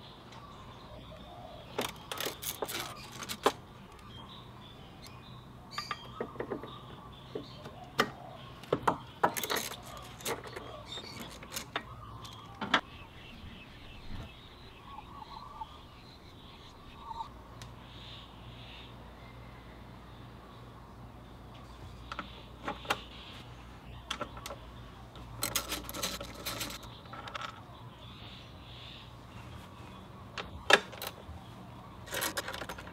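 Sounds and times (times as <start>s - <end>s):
faint birdsong: 0.0s - 32.9s.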